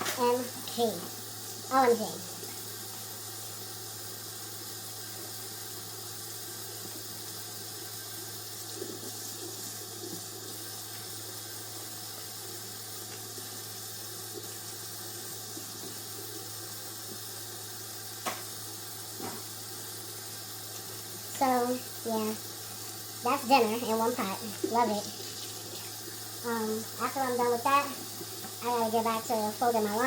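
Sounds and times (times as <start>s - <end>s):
steady low hum: 0.0s - 30.0s
tap water running: 0.0s - 30.0s.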